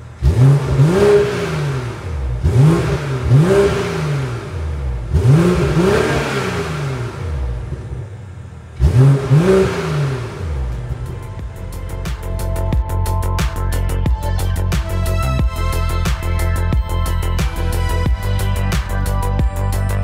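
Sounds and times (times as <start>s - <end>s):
car engine revving in blips: 0.0s - 20.0s.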